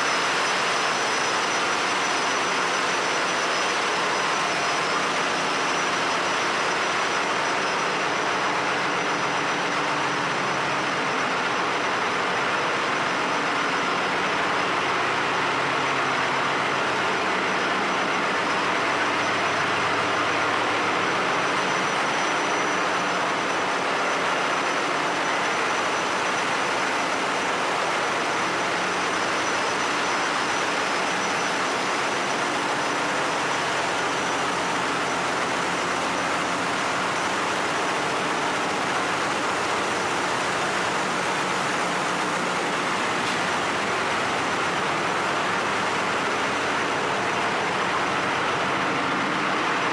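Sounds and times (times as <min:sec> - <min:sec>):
engine room machinery roar: 0:00.0 - 0:49.9
high machinery whine: 0:00.0 - 0:49.9.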